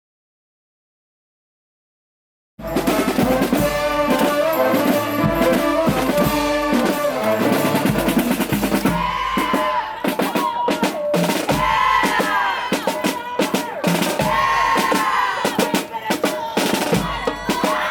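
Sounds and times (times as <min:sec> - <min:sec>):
brass horns: 0:02.6 - 0:17.9
snare and bass drums: 0:02.6 - 0:17.9.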